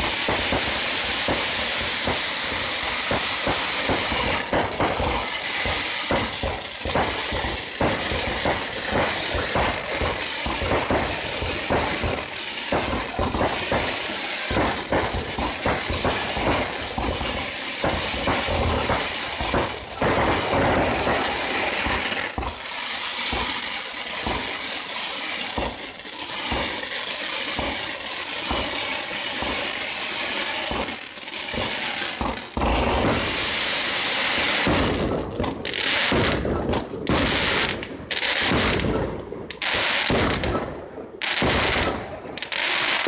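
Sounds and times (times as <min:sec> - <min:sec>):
fireworks crackling: 0:00.0 - 0:43.0.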